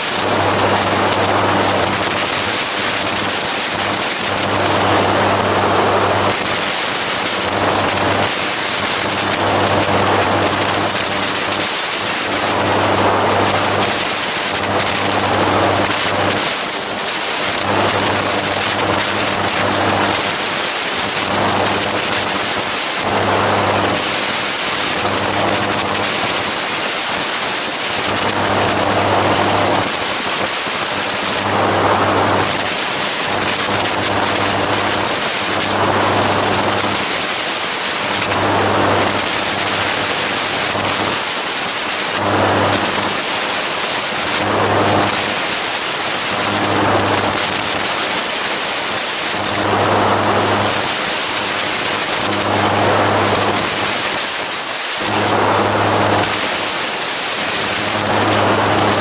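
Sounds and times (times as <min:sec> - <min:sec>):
engine and rotor drone: 0:00.0 - 0:59.0.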